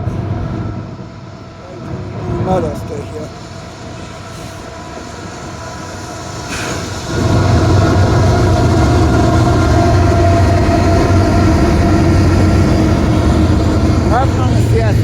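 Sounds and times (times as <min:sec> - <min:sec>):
freight train rumbling by: 0:00.0 - 0:15.0.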